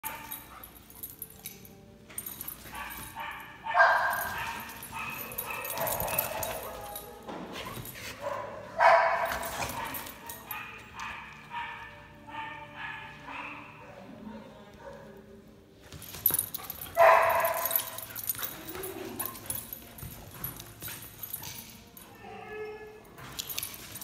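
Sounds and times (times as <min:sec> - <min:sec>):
dogs barking and yipping: 0:00.0 - 0:01.4, 0:02.2 - 0:13.8, 0:16.2 - 0:24.0.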